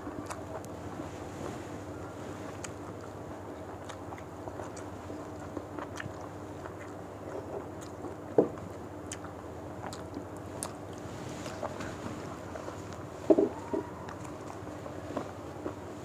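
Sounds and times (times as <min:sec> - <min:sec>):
people chewing: 0:00.0 - 0:16.0
steady low hum: 0:00.0 - 0:16.0.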